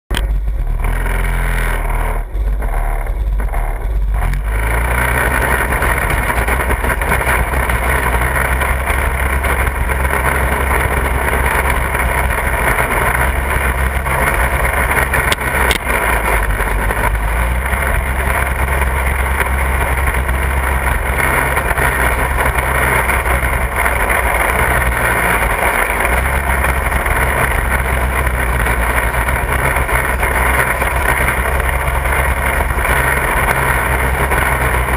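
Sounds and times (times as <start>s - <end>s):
buggy engine running: 0.1s - 34.9s.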